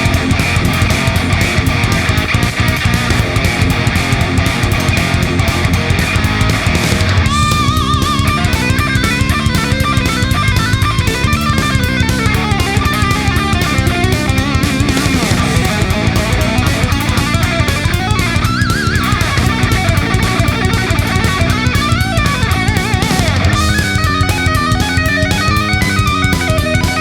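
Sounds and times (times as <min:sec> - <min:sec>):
distorted electric guitar: 0:00.0 - 0:27.0
drums steady beat: 0:00.0 - 0:27.0.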